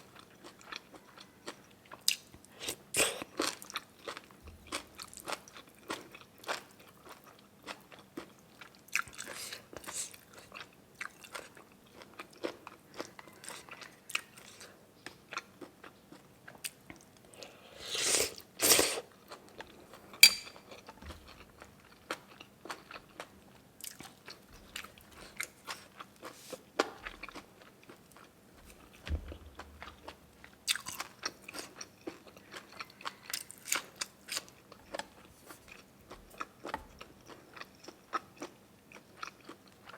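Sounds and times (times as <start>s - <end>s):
chewing noodle soup: 0.0s - 39.9s.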